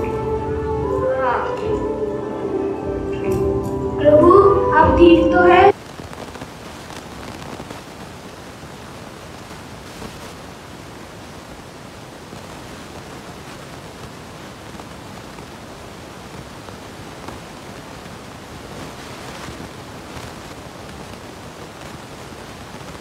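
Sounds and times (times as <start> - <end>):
room noise hiss: 0.0 - 23.0.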